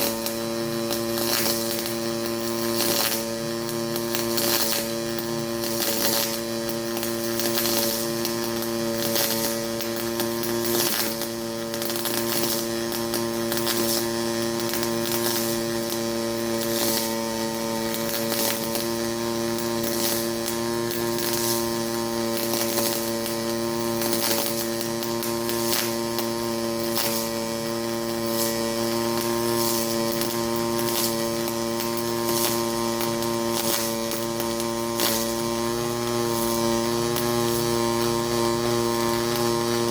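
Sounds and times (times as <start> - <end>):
welding arc buzzing and crackling: 0.0 - 39.9.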